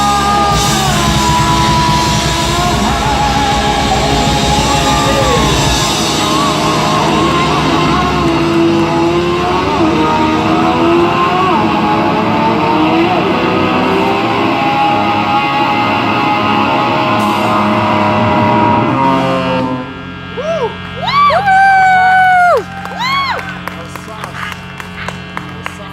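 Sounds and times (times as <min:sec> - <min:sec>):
rock band backing: 0:00.0 - 0:25.8
electric guitar bending notes: 0:00.0 - 0:25.9.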